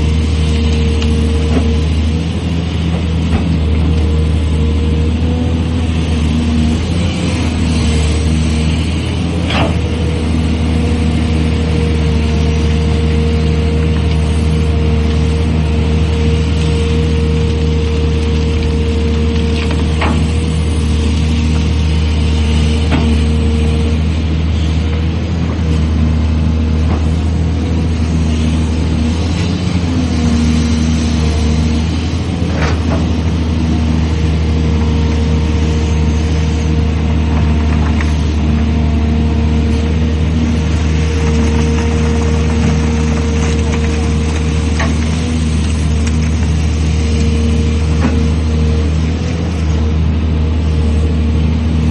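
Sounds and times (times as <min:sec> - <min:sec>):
excavator diesel engine running: 0:00.0 - 0:51.9
hydraulic whine: 0:00.0 - 0:51.9.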